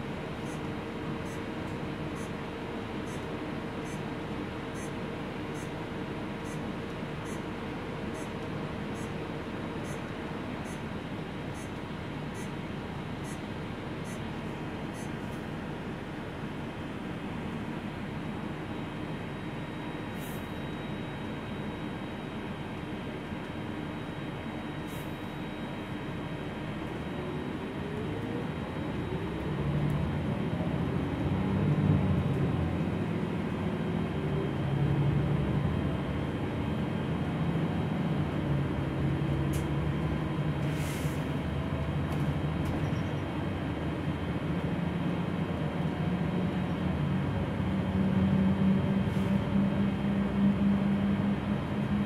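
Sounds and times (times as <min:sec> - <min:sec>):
bus drivetrain whine: 0:00.0 - 0:52.0
bus engine running: 0:00.0 - 0:52.0.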